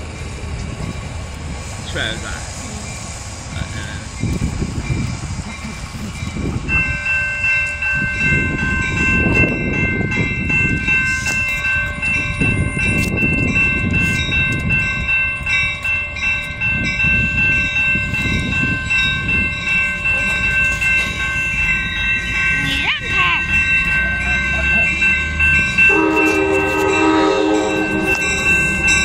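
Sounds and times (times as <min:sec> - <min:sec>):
steady high tones: 0:00.0 - 0:29.0
train rumble: 0:00.0 - 0:29.0.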